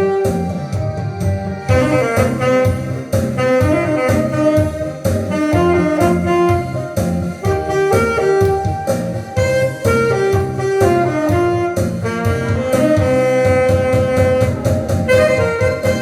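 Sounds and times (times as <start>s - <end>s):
accompaniment with low beat: 0.0s - 16.0s
alto saxophone melody: 0.0s - 16.0s.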